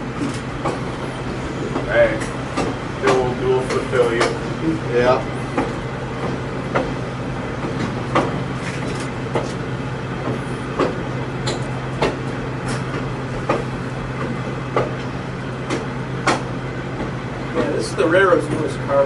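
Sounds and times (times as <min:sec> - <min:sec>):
train coach rumbling on track: 0:00.0 - 0:19.0.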